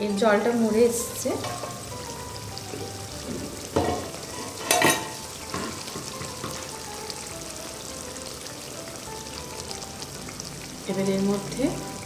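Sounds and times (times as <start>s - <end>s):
gravy sizzling and bubbling: 0.0s - 12.0s.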